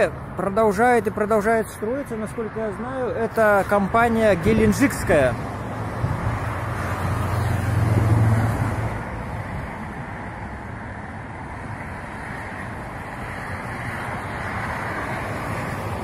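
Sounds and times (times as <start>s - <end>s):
road traffic noise: 0.0s - 16.0s
vehicle passing: 0.3s - 16.0s.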